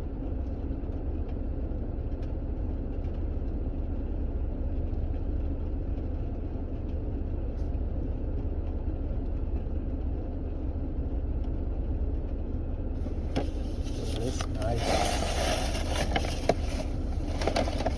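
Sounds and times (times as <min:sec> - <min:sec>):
car engine rumble inside cabin: 0:00.0 - 0:17.9.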